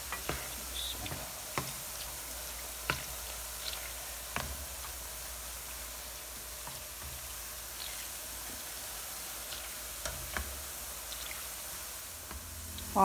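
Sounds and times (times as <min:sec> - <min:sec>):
batter sizzling in hot oil: 0:00.0 - 0:13.0.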